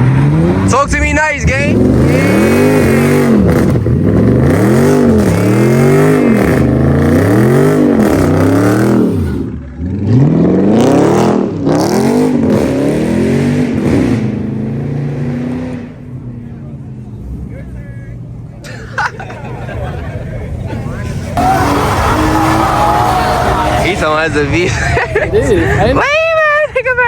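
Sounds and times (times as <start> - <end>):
car engine revving: 0.0 - 17.6, 18.2 - 25.9.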